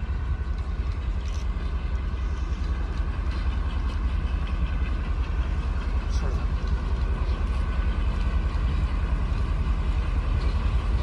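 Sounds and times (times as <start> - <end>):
distant locomotive engine drone: 0.0 - 11.0.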